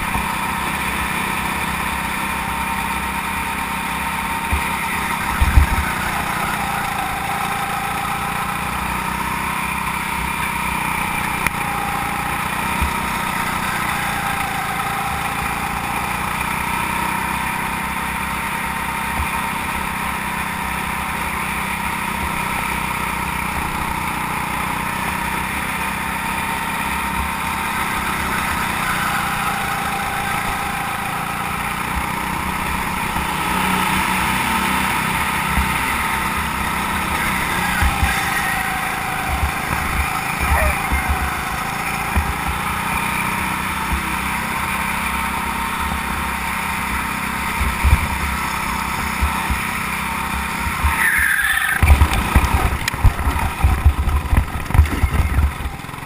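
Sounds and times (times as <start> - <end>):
go-kart engine running: 0.0 - 56.0.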